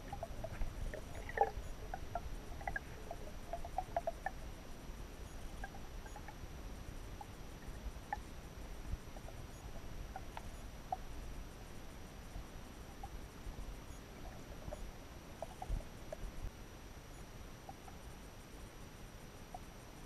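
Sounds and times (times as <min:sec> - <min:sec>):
small clicks and ticks: 0:00.0 - 0:16.5, 0:17.1 - 0:18.7
underwater low rumble: 0:00.0 - 0:18.4.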